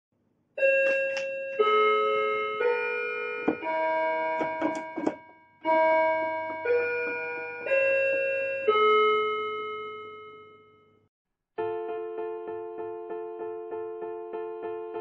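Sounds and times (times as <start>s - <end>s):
keyboard chords: 0.6s - 10.8s, 11.6s - 15.0s.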